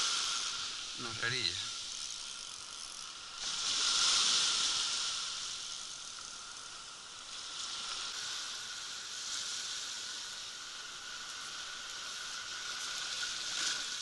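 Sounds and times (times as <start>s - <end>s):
small waves on shingle beach: 0.0s - 14.0s.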